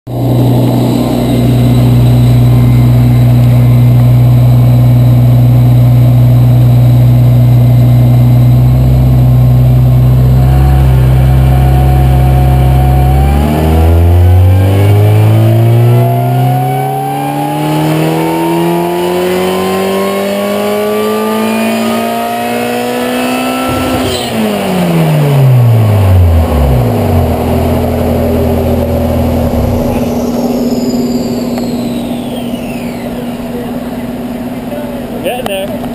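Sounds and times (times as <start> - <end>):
car engine revving: 0.1 - 35.9.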